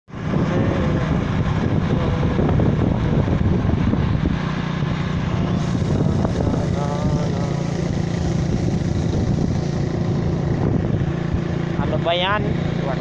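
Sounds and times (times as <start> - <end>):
road and wind noise: 0.0 - 13.0
motorcycle engine running: 0.1 - 13.0.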